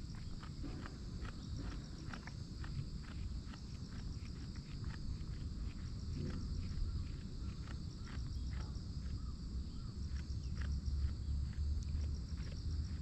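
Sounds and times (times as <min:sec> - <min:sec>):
goats chewing cud: 0:00.0 - 0:09.3, 0:10.0 - 0:13.0.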